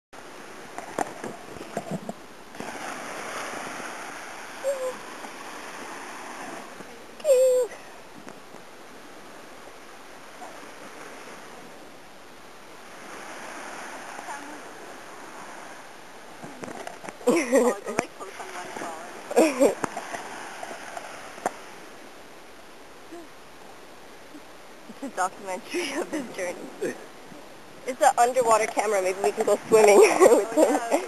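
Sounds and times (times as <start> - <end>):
sea surf washing on beach: 0.2 - 31.0.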